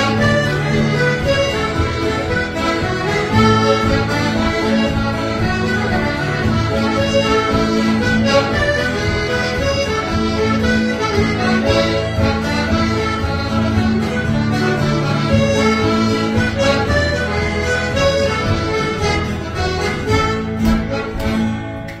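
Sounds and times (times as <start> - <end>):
accordion music: 0.0 - 22.0.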